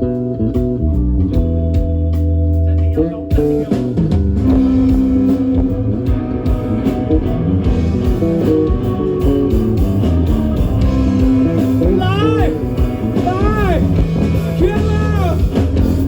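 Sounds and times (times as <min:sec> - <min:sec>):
electric guitar: 0:00.0 - 0:16.0
live rock band instrumental: 0:00.0 - 0:16.0.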